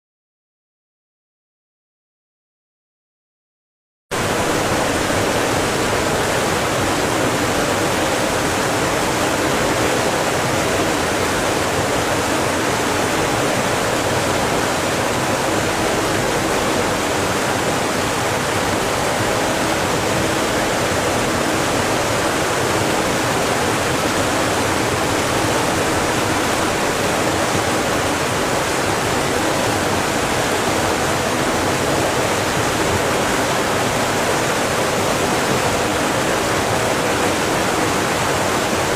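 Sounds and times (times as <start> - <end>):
steady rushing noise: 4.1 - 38.9.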